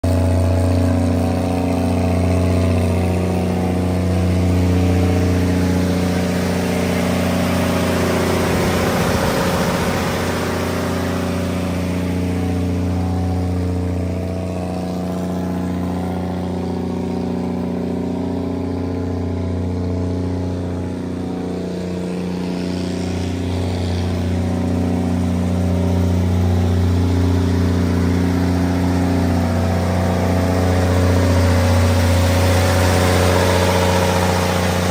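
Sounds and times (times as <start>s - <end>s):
diesel generator engine drone: 0.0s - 34.9s.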